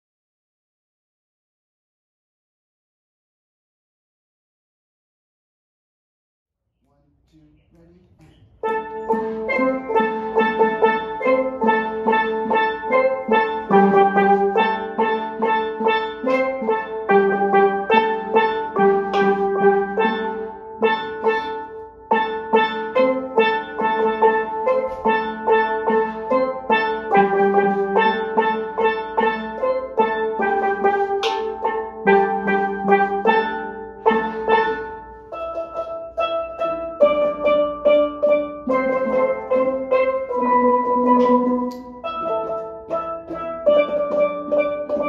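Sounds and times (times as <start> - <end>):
steel drum ensemble playing: 8.6 - 45.0.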